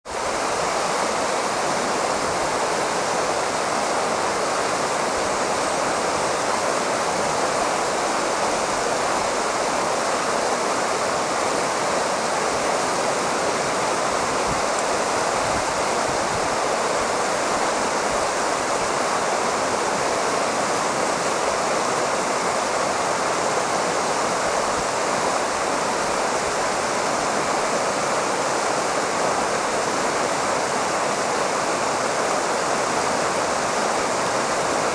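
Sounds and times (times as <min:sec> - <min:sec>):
stream running over stones: 0:00.1 - 0:34.9.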